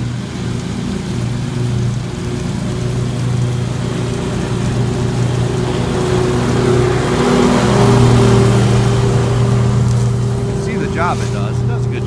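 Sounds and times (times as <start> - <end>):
mower engine running: 0.0 - 12.0
rush of grass clippings: 0.0 - 12.0.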